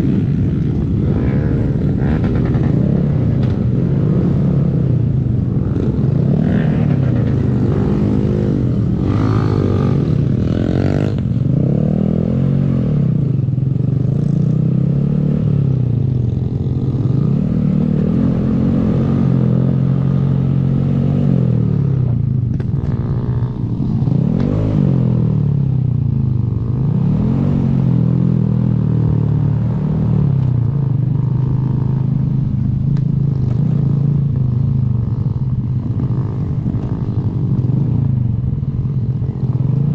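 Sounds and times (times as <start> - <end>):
low wind rumble: 0.0 - 39.9
motorcycle engine accelerating: 0.0 - 39.9.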